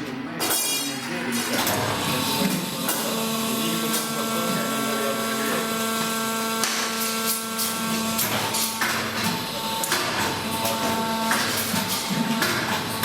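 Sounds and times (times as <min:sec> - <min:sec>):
machine electric whine: 0:01.4 - 0:13.0.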